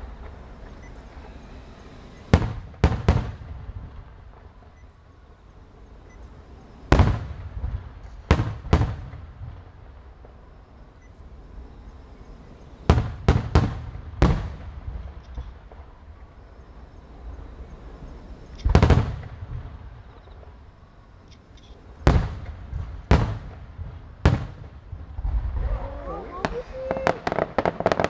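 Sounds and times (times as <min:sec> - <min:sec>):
firework shells bursting: 0:00.0 - 0:28.0.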